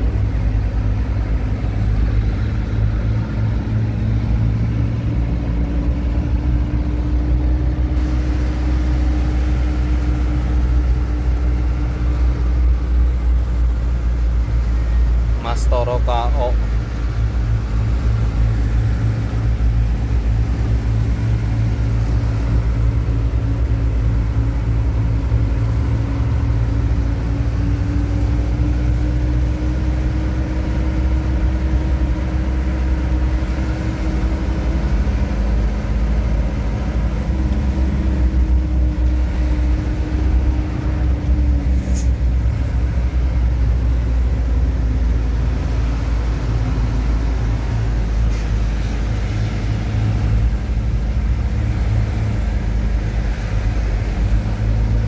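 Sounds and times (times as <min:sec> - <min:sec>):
truck engine drone: 0:00.0 - 0:55.0.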